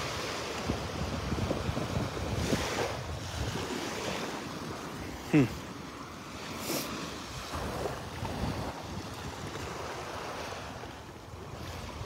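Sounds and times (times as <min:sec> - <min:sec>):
wind rumbling on microphone: 0:00.0 - 0:05.2, 0:06.2 - 0:12.0
surf washing up beach: 0:00.0 - 0:12.0.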